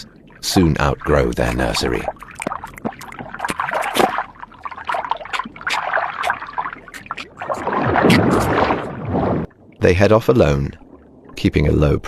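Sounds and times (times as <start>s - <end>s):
underwater bubbling and trickling: 0.0s - 12.0s.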